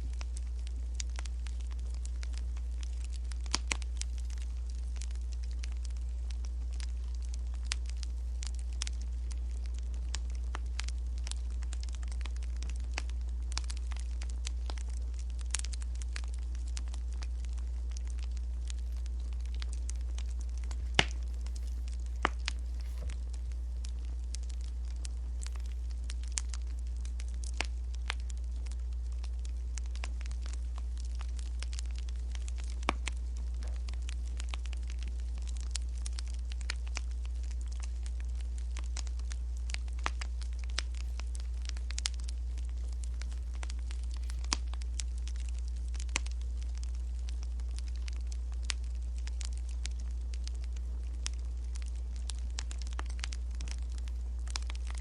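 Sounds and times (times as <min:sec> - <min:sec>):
steady low hum: 0:00.0 - 0:55.0
wood fire crackling and popping: 0:00.0 - 0:55.0.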